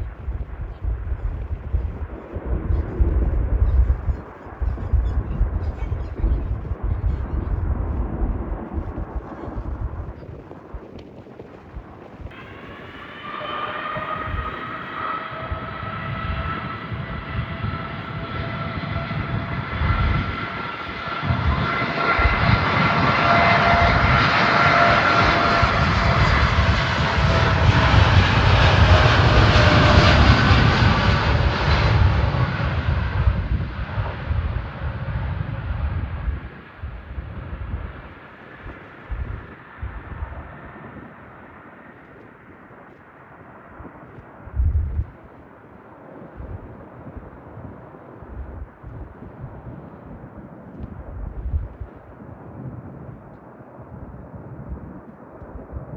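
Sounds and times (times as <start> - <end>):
jet airliner rumble: 0.0 - 55.9.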